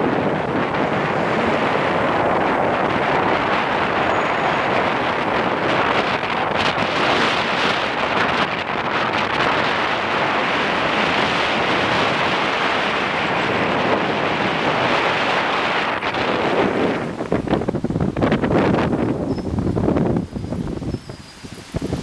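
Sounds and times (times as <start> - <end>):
strong wind on microphone: 0.0 - 22.0.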